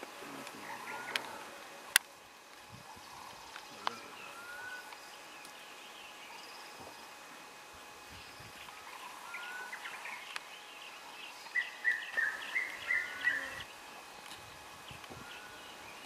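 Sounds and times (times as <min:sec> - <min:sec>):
birds chirping: 0:00.1 - 0:02.0, 0:02.7 - 0:16.0.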